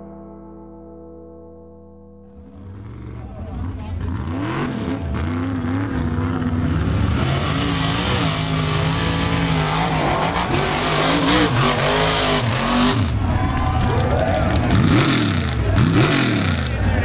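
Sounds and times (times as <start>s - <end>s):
truck engine revving: 2.4s - 17.0s.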